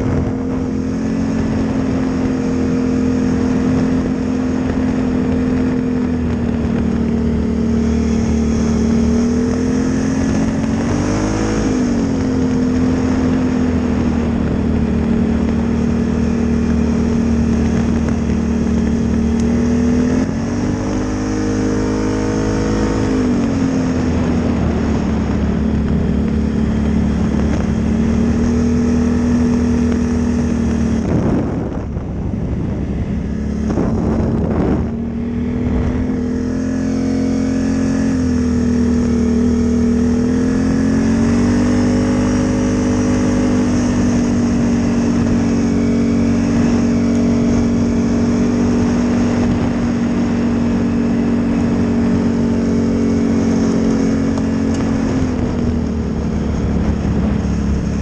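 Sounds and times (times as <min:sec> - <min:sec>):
atv engine under throttle: 0:00.0 - 0:58.0.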